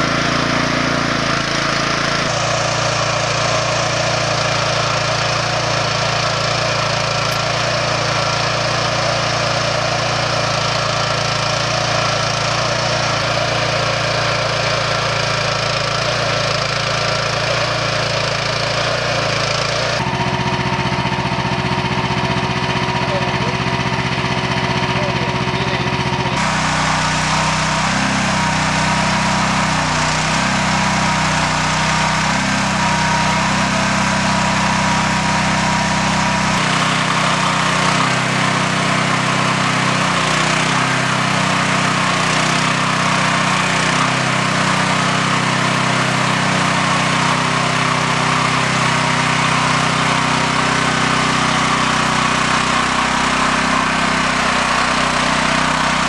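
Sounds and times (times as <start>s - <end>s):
small engine running under load: 0.0s - 56.0s.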